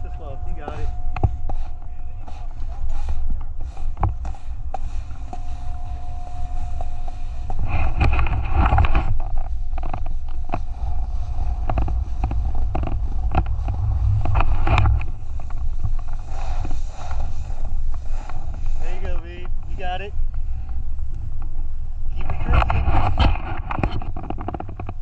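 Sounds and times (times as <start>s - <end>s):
scraping hiss: 0.0s - 20.8s
wind buffeting microphone: 0.0s - 25.0s.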